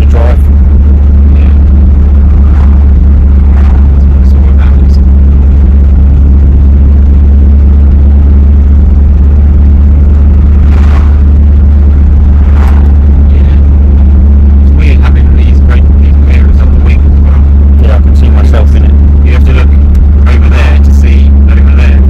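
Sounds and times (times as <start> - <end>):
car engine and road noise drone: 0.0 - 22.0.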